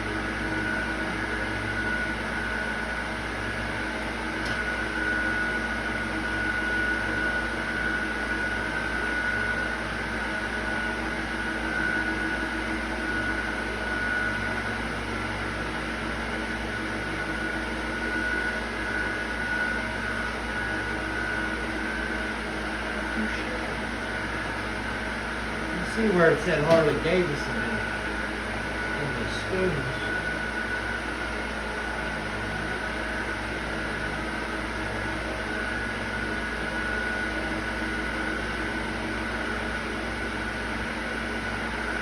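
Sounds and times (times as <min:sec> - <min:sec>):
motor hum with high whine: 0:00.0 - 0:42.0.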